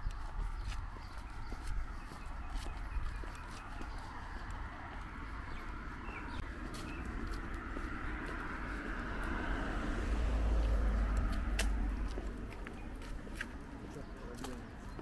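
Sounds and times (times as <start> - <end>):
vehicle approaching: 0.0 - 14.9
street traffic rumble: 0.0 - 15.0.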